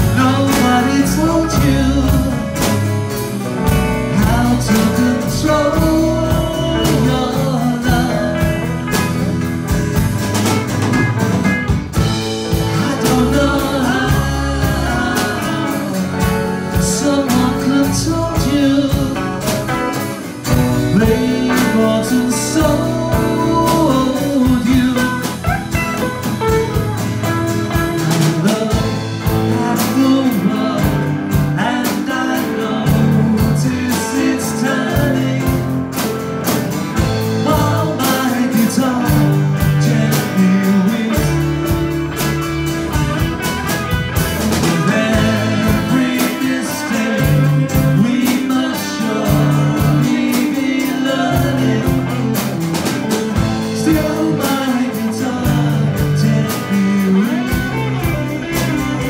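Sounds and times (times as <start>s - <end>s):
person singing: 0.0s - 9.4s, 12.0s - 36.2s, 37.0s - 59.0s
guitar: 0.0s - 59.0s
steady drum beat: 0.0s - 59.0s.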